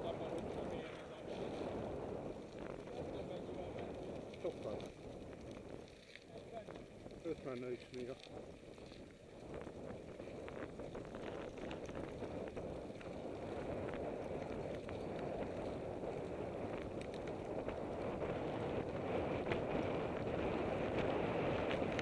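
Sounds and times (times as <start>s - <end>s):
stones and bike rattling: 0.0s - 22.0s
wind buffeting microphone: 0.0s - 22.0s.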